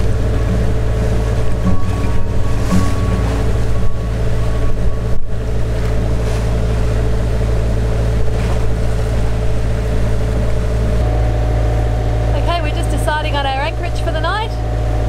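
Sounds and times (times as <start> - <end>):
boat engine droning: 0.0 - 15.0
water rushing past hull: 0.0 - 15.0.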